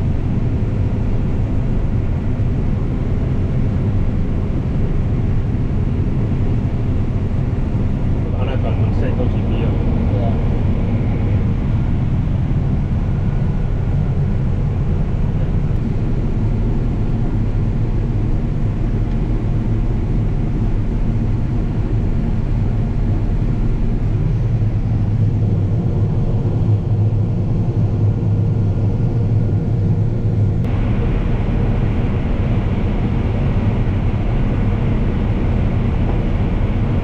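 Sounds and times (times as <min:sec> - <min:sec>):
combine harvester engine running: 0:00.0 - 0:37.0.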